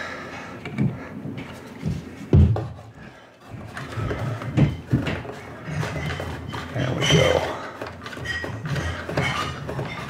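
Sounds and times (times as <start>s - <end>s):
dull knocks and handling bumps: 0.7s - 3.0s, 3.6s - 10.0s.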